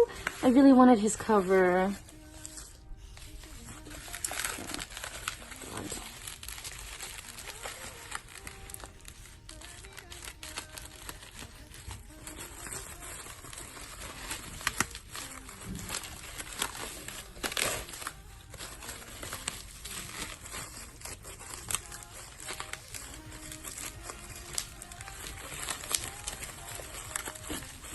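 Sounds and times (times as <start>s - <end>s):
paper rustling and crinkling: 0.0s - 27.9s.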